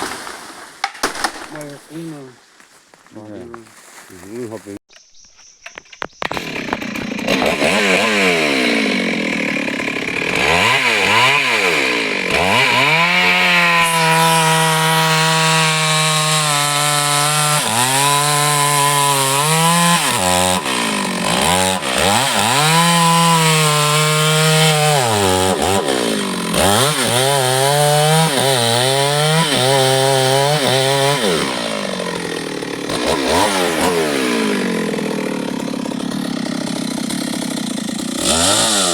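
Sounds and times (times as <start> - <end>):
chainsaw revving: 6.2 - 38.9.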